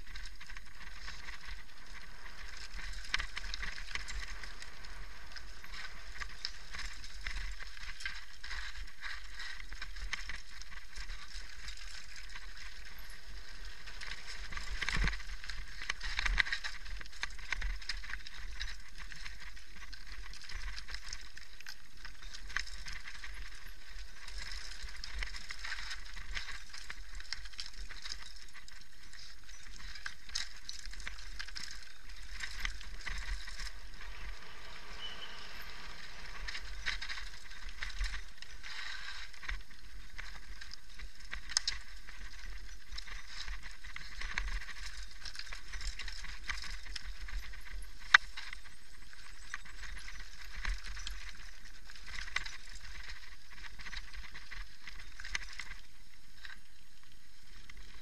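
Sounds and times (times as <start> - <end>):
bike tyres crunching over gravel: 0.0 - 58.0.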